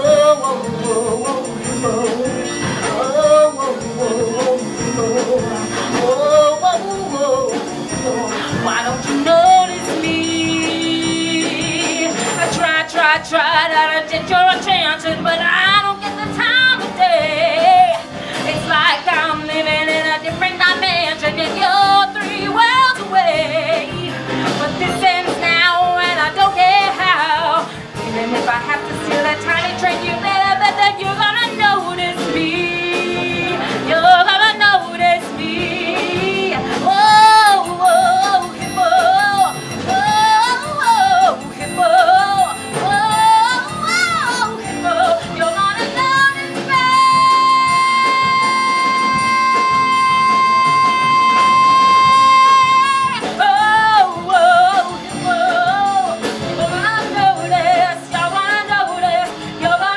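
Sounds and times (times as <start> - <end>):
instrumental accompaniment: 0.0 - 59.9
woman singing with vibrato: 0.0 - 59.9.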